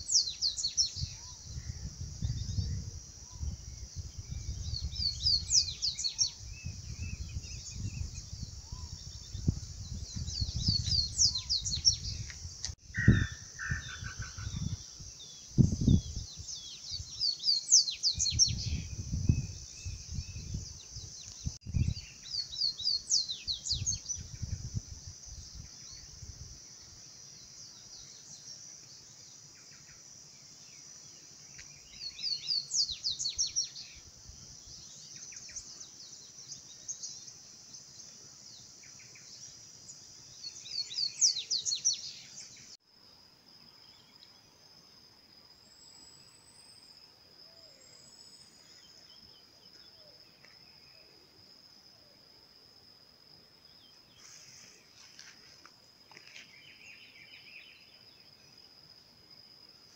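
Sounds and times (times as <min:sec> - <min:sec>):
high insect drone: 0:00.0 - 0:59.9
high insect trill: 0:00.0 - 0:59.9.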